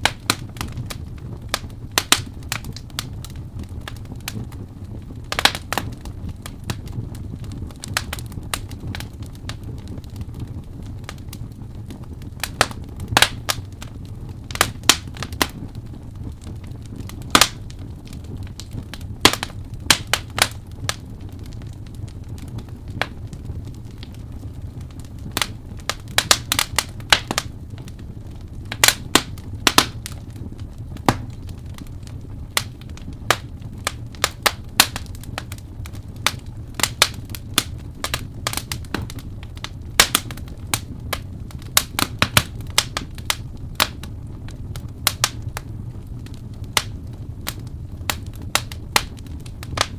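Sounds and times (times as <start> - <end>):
low rumble of burning fire: 0.0 - 49.9
sharp pops and snaps of fire: 0.0 - 49.9
wood fire crackling: 0.0 - 49.9.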